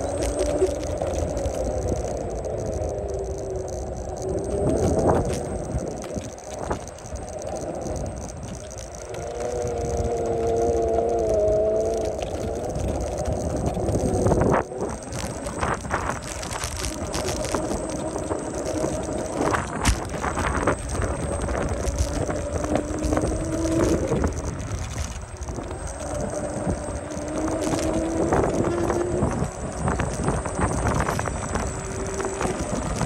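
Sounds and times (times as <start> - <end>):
electric motor whine: 0.0 - 33.0
scooter wheels rattling on bricks: 0.0 - 33.0.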